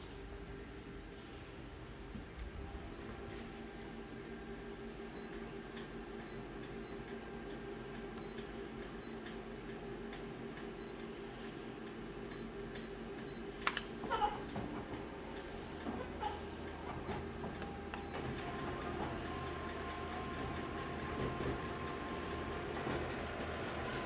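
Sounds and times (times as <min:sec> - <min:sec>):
photocopier humming: 0:00.0 - 0:24.0.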